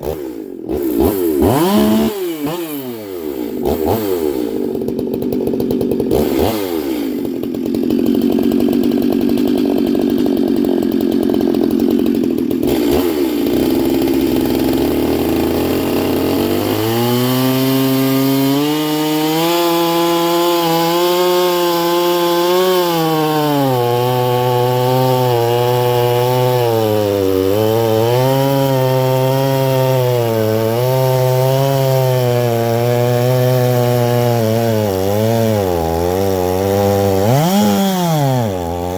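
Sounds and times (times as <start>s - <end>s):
chainsaw running at high revs: 0.0s - 38.9s.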